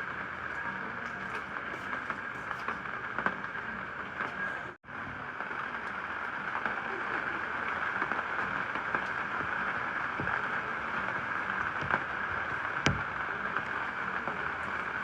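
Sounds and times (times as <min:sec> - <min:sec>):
steady rain patter: 0:00.0 - 0:15.0.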